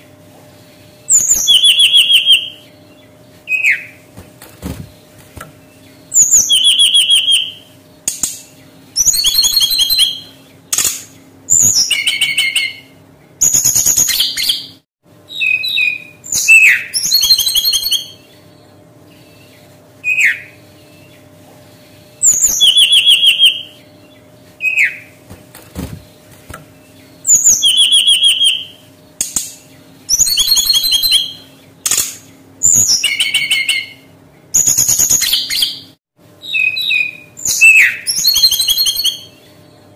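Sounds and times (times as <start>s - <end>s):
faint steady hum: 0.0s - 39.9s
bird singing trilled phrases: 1.1s - 4.0s, 4.6s - 21.4s, 22.0s - 25.2s, 25.8s - 39.8s.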